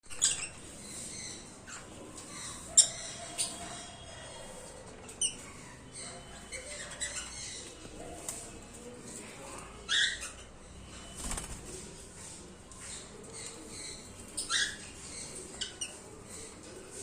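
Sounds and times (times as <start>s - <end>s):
birds high-pitched calls: 0.0s - 11.8s, 12.4s - 17.0s.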